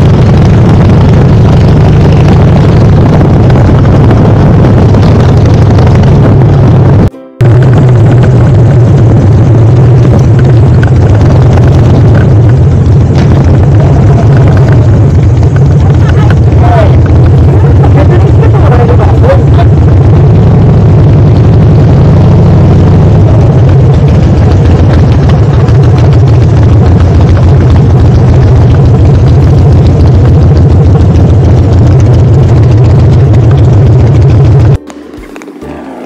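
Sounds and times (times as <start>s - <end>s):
motorcycle engine low pulsing exhaust: 0.0s - 35.7s.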